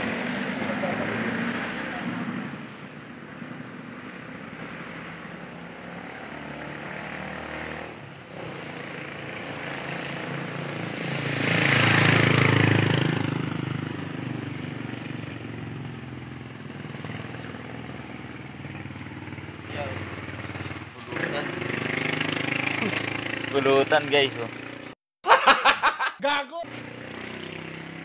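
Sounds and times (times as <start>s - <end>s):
vehicle passing close by: 0.0s - 24.4s, 26.7s - 28.0s
road traffic noise: 0.0s - 28.0s.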